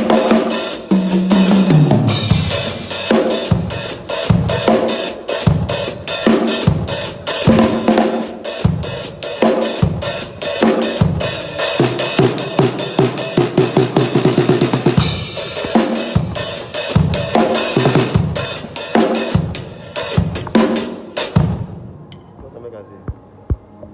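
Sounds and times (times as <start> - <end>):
drum kit beat: 0.0 - 22.2.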